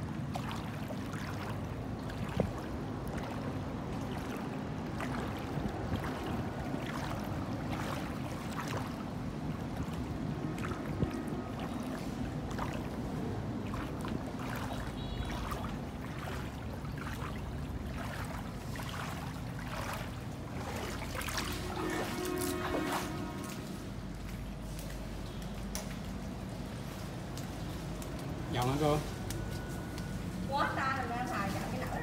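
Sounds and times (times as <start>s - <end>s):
water splashing from wading: 0.0s - 32.0s.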